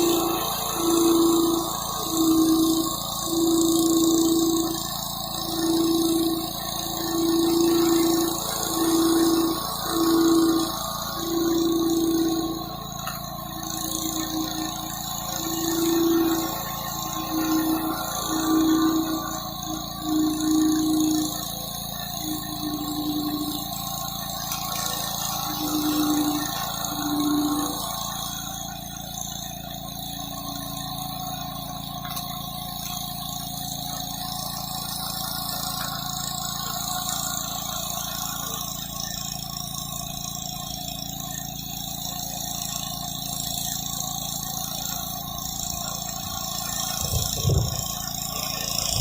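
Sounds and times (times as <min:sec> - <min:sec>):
low hums: 0:00.0 - 0:39.3, 0:44.7 - 0:49.0
pressure washer engine drone: 0:00.0 - 0:49.0.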